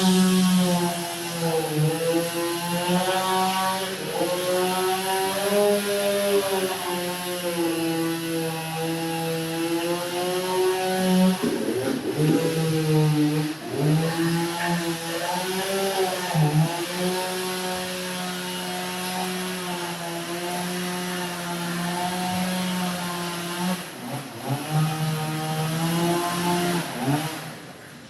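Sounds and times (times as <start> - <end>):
chainsaw revving: 0.0 - 27.9.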